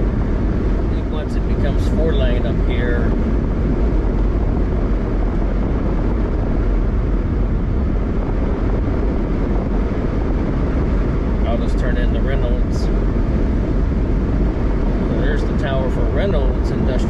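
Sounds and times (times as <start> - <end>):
car cabin road noise: 0.0 - 17.0.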